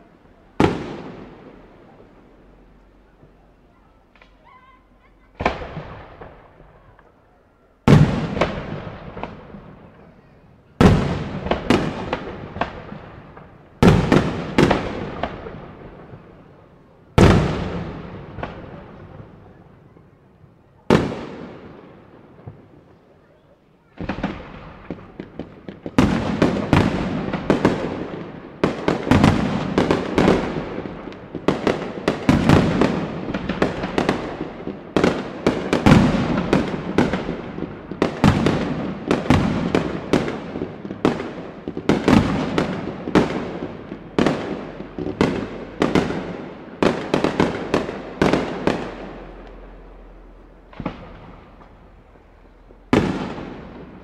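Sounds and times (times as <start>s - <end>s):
fireworks bangs echoing: 0.0s - 54.0s.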